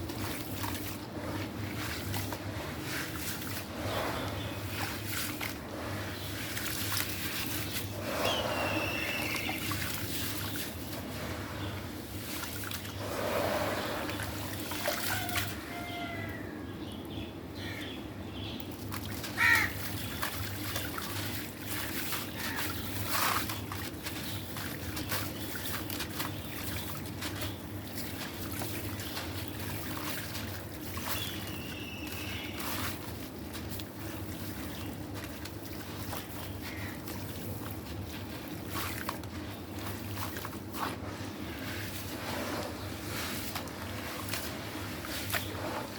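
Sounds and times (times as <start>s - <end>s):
water trickling and sloshing: 0.0s - 17.5s, 18.1s - 45.9s.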